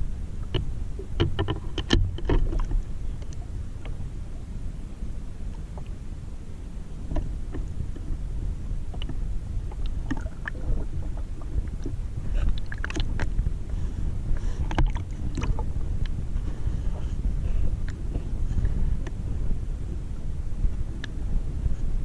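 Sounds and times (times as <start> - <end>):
low underwater rumble: 0.0 - 22.0.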